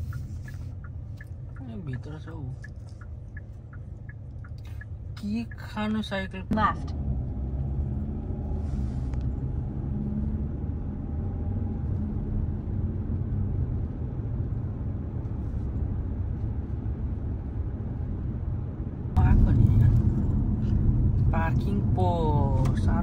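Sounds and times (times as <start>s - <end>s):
car cabin road rumble: 0.0s - 23.0s.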